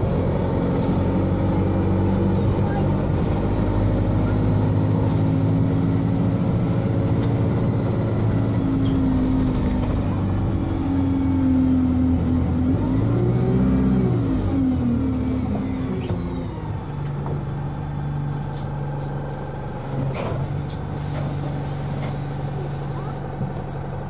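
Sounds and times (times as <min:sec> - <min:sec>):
bus engine running: 0:00.0 - 0:24.0
high engine whine: 0:00.0 - 0:24.0.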